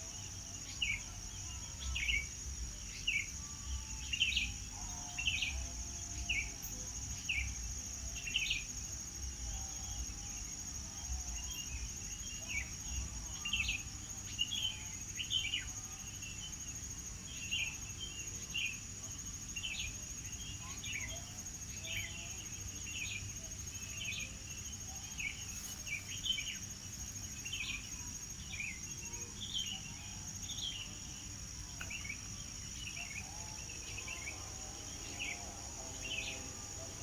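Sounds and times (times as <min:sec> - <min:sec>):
high-pitched insect drone: 0:00.1 - 0:37.0.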